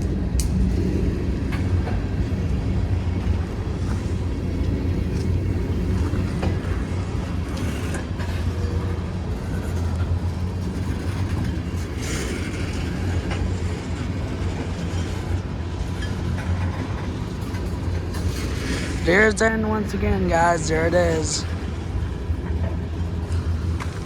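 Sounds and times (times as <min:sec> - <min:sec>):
train cars rumbling past: 0:00.0 - 0:24.0.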